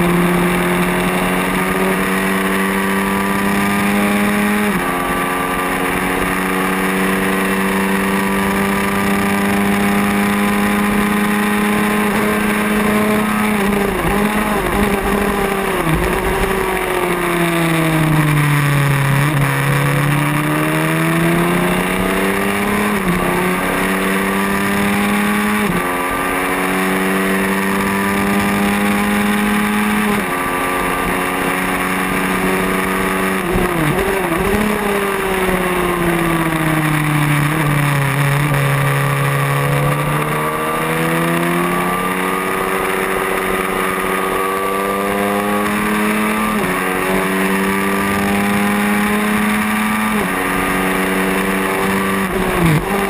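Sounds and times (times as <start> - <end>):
racing motorcycle engine revving: 0.0 - 53.0.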